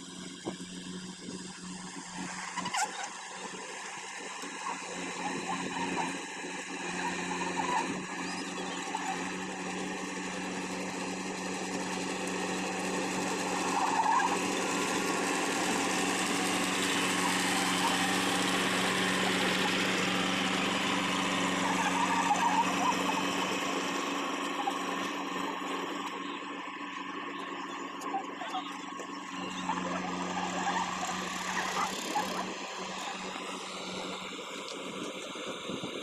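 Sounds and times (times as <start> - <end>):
combine harvester engine humming: 0.0 - 36.0.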